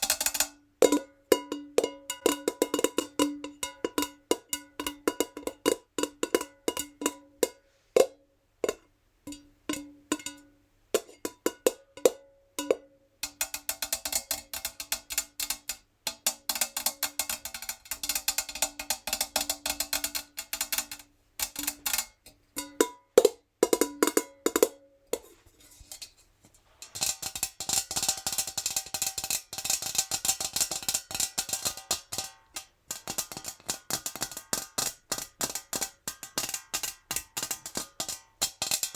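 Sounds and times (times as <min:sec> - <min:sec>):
fingernails tapping metal jar: 0:00.0 - 0:10.4, 0:11.0 - 0:26.2, 0:26.8 - 0:38.9.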